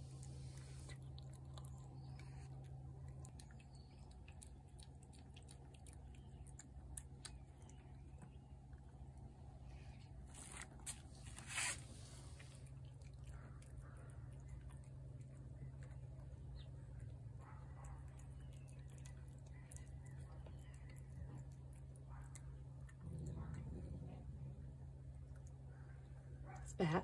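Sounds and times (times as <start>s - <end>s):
cat chewing wet food: 0.0s - 26.7s
steady low hum: 0.0s - 27.0s.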